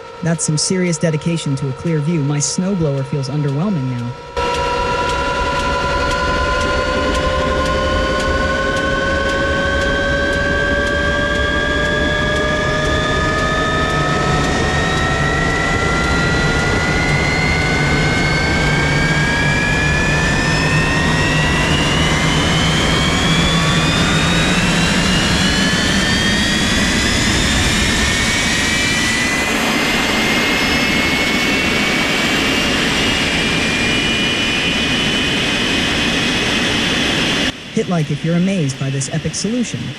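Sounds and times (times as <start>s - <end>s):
jet engine spooling up: 0.0s - 39.9s.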